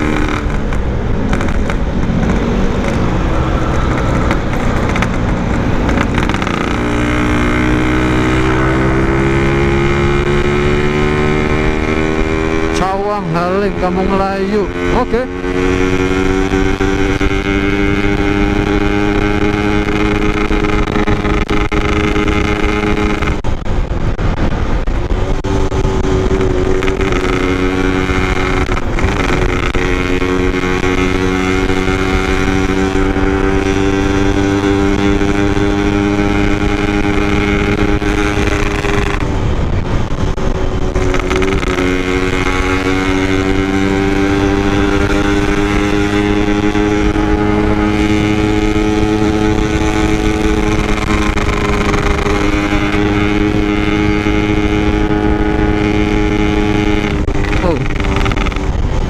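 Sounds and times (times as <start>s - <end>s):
motorcycle engine and exhaust: 0.0s - 59.0s
road noise: 0.0s - 59.0s
rushing wind: 0.0s - 59.0s.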